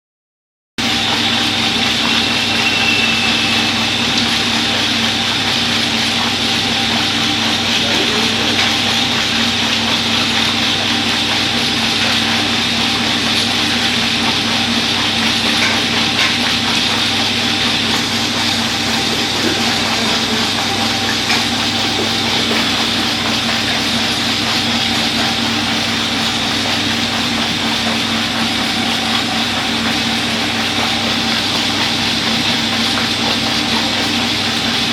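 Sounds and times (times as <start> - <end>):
washing machine running: 0.8 - 34.9.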